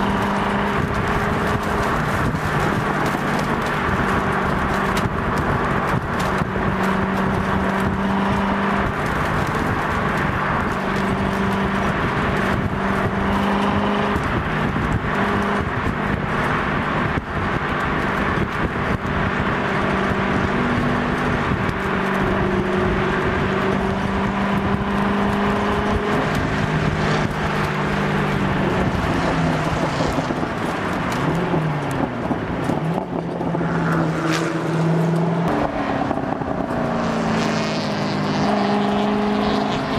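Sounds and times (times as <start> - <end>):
car engine running hard: 0.0 - 39.9
wind and road noise: 0.0 - 39.9.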